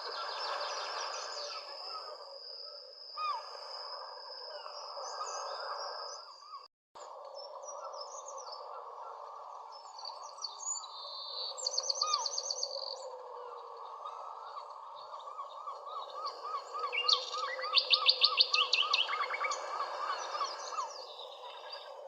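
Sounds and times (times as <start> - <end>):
songbirds chirping and calling: 0.0 - 22.0.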